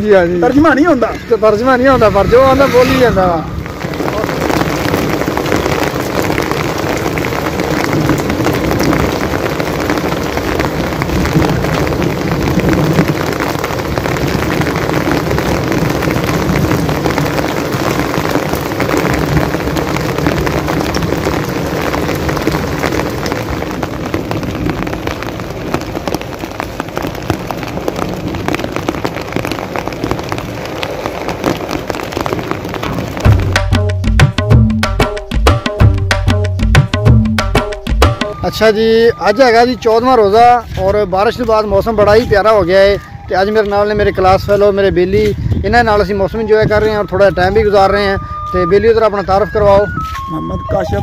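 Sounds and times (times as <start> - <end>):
heavy rain on concrete roof: 0.0 - 51.0
rain splashing into water: 0.0 - 51.0.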